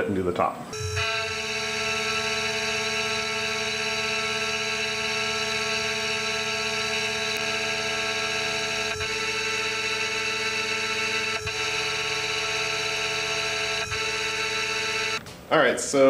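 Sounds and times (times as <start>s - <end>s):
low machine tone: 0.7s - 15.2s
milling spindle whine: 0.8s - 15.2s.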